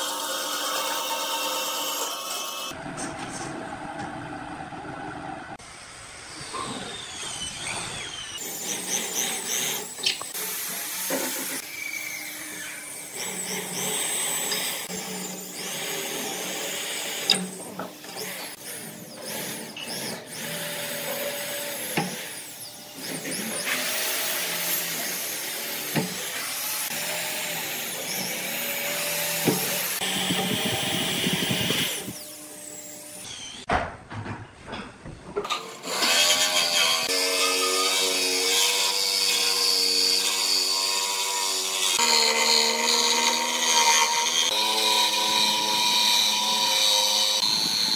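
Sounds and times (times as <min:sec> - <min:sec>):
electric drill boring into wood: 0:06.3 - 0:33.7, 0:35.5 - 0:47.9.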